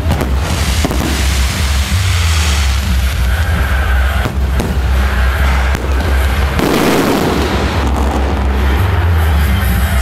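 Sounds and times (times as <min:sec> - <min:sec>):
fireworks bangs: 0:00.0 - 0:10.0
fireworks crackling: 0:00.0 - 0:10.0
loud music with bass beat: 0:00.0 - 0:10.0.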